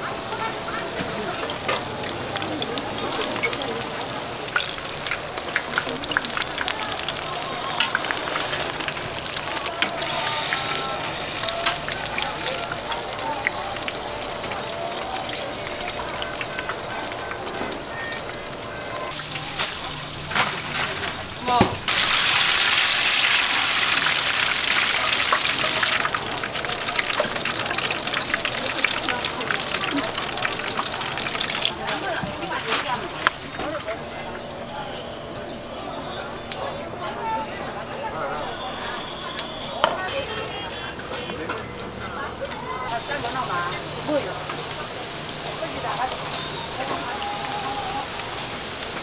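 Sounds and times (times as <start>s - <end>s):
batter deep-frying in hot oil: 0.0s - 36.0s, 41.8s - 49.0s.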